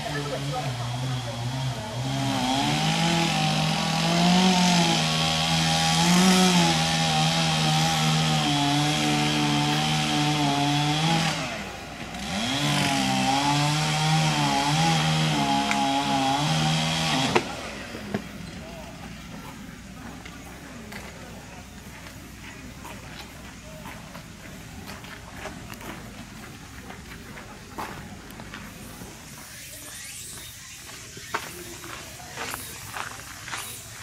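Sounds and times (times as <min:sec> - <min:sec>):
chainsaw cutting wood: 0:00.0 - 0:21.2, 0:21.8 - 0:34.0.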